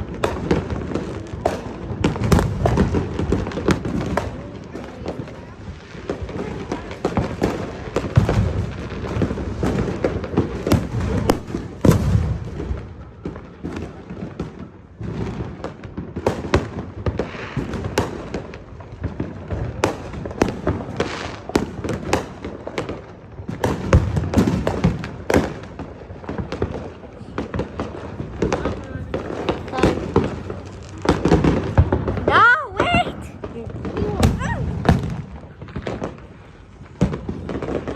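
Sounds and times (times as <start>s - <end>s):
deep fireworks booms: 0.0s - 37.9s
fireworks bangs and crackles: 0.0s - 37.9s.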